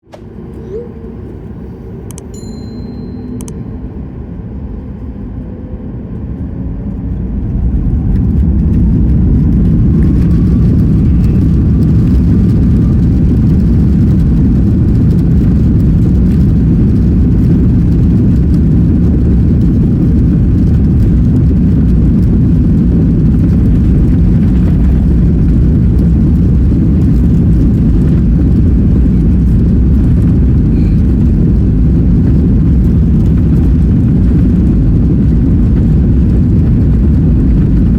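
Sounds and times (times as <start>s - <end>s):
rising jet engine whine: 0.0s - 37.9s.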